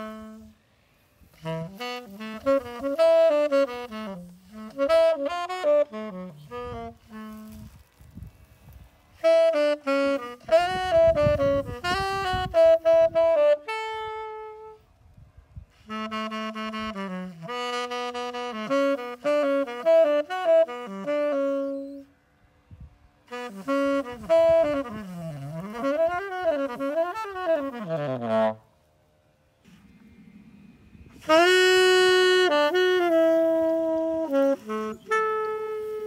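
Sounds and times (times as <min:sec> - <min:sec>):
tenor saxophone playing: 0:00.0 - 0:15.0, 0:15.8 - 0:22.2, 0:23.2 - 0:28.8, 0:31.1 - 0:36.0.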